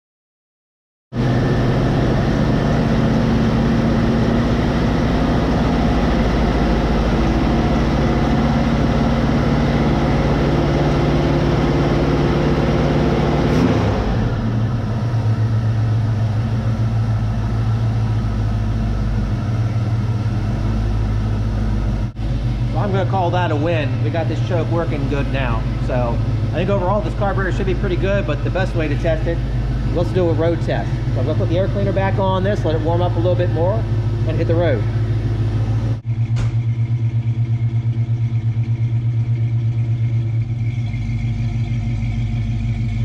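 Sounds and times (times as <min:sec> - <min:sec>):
car engine idling: 0:01.2 - 0:43.0.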